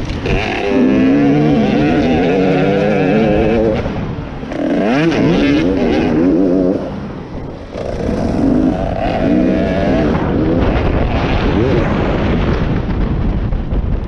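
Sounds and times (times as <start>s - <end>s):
motocross bike engine revving: 0.0s - 12.6s.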